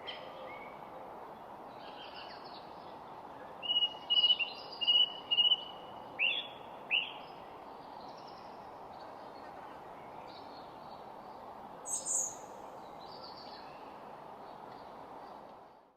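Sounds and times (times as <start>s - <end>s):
steady background hiss: 0.0s - 15.9s
garden birds chirping: 1.4s - 15.9s.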